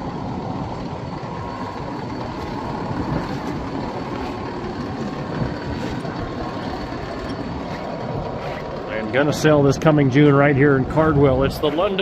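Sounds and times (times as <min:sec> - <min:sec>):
conveyor belt rumbling and rattling: 0:00.0 - 0:12.0
faint motor hum: 0:00.0 - 0:12.0.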